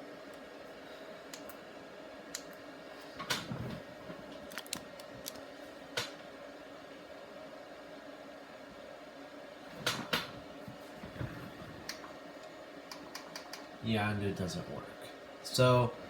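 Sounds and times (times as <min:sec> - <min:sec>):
desktop computer hum: 0:00.0 - 0:16.0.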